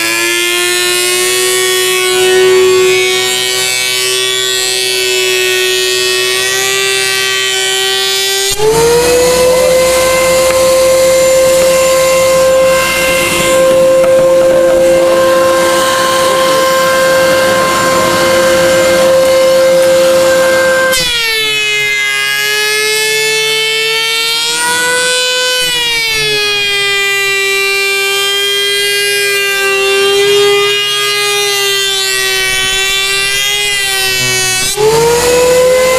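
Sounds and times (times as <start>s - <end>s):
rough wood cutting noise: 0.0s - 35.9s
surface planer whining: 0.0s - 35.9s.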